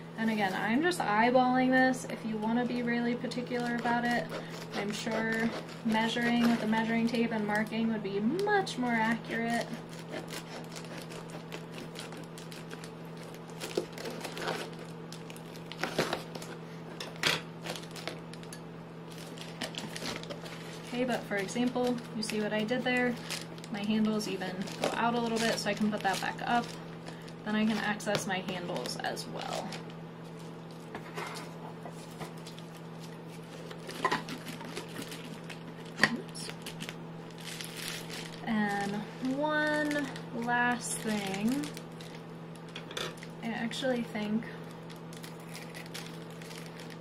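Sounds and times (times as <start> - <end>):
foil crinkling: 0.2 - 47.0
scissors snipping foil: 2.6 - 29.9, 32.3 - 44.4, 45.1 - 47.0.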